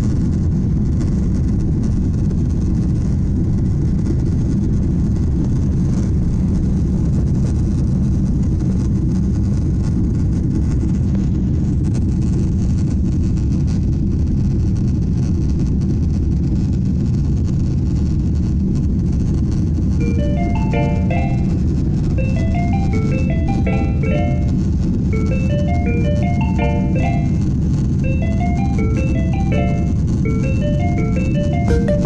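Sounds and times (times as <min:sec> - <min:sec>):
airplane cabin engine and airflow noise: 0:00.0 - 0:32.0.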